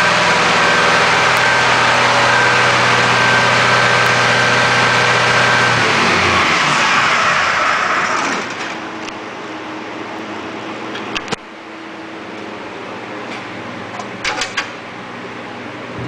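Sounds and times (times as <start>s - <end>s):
engine running: 0.0s - 16.0s
steady fan-like noise: 0.0s - 16.0s.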